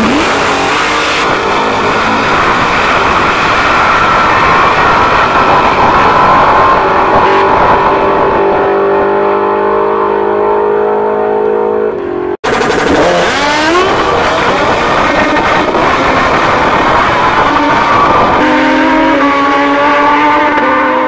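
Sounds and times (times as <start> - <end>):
drag car engine at full throttle: 0.0 - 21.0
motorcycle engines revving: 0.0 - 21.0.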